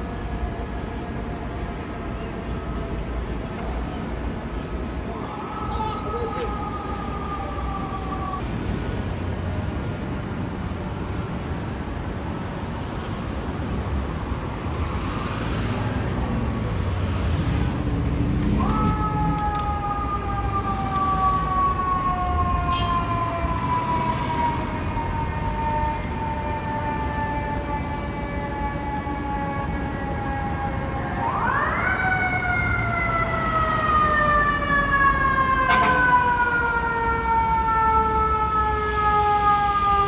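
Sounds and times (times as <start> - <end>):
road noise: 0.0 - 40.0
fire truck siren: 4.9 - 40.0.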